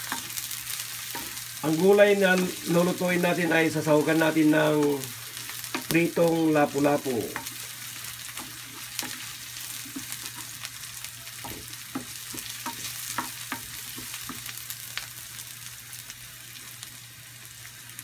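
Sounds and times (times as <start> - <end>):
garlic and onion sizzling in oil: 0.0 - 18.0.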